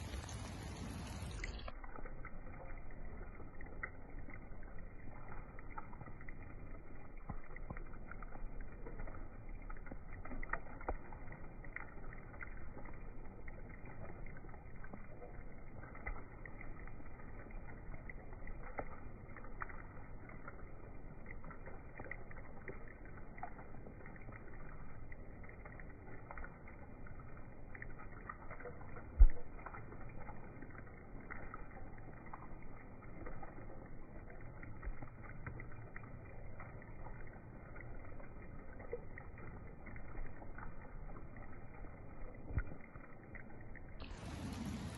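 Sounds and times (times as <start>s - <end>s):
muffled rain patter on water: 0.0s - 44.9s
soft drip taps: 0.0s - 44.9s.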